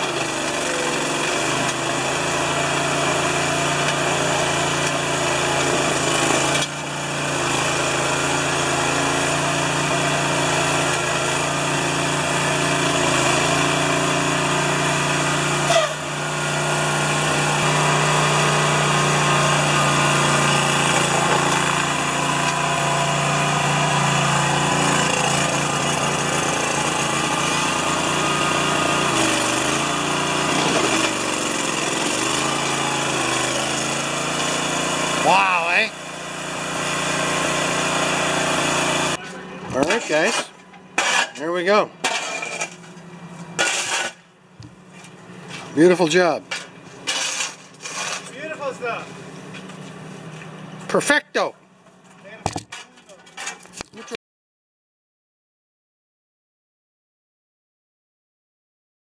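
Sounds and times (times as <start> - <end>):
small engine running under load: 0.0 - 54.0.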